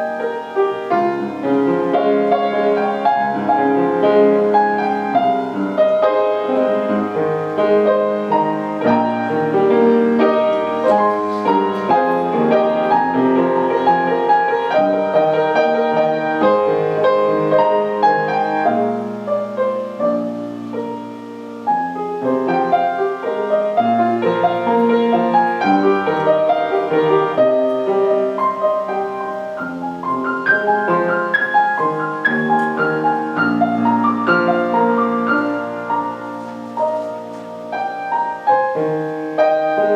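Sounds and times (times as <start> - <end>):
slow gentle piano piece: 0.0 - 39.9.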